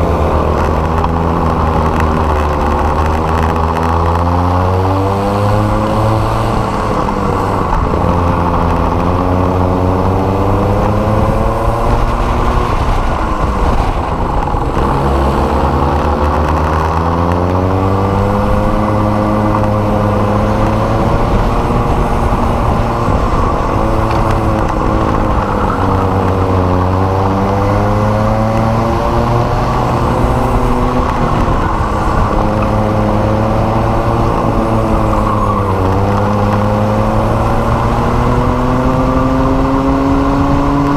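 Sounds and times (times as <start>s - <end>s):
kart engine at racing speed: 0.0s - 40.9s.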